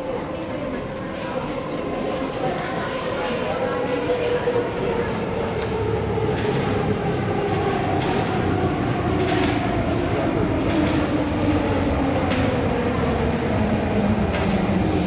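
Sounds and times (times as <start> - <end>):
train rumbling and whining: 0.0 - 15.0.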